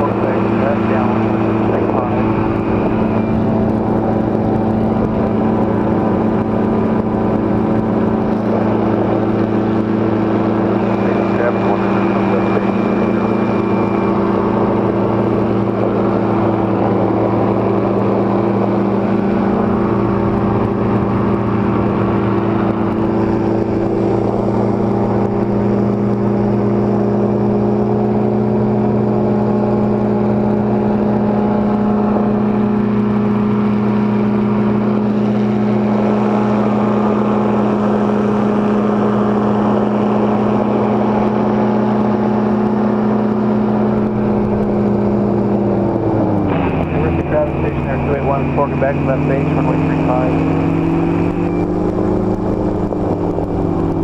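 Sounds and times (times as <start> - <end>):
engine and propeller humming: 0.0 - 54.0.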